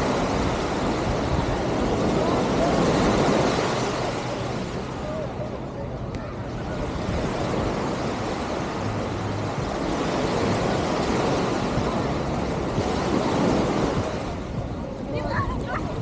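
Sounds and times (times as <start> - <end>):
surf washing: 0.0 - 16.0
wind on microphone: 0.0 - 16.0.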